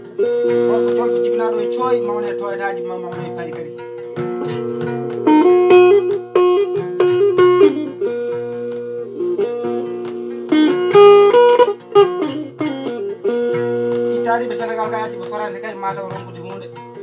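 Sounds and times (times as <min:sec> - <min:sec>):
electric guitar: 0:00.0 - 0:17.0
plucked lute: 0:00.0 - 0:17.0.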